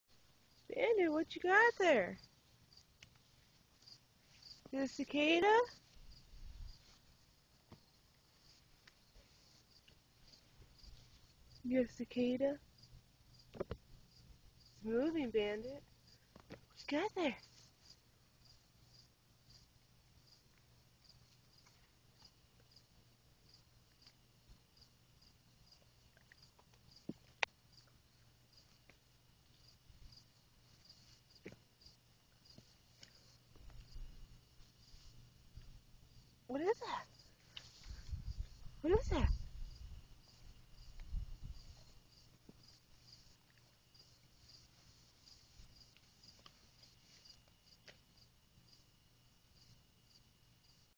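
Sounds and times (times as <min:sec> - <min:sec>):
insects chirping: 0:00.1 - 0:50.9.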